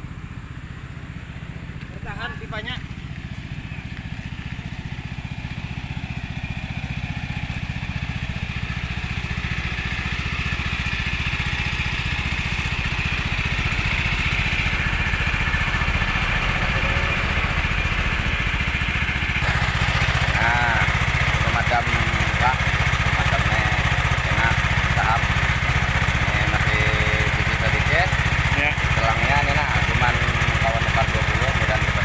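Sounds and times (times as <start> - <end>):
pump engine running: 0.0 - 32.0.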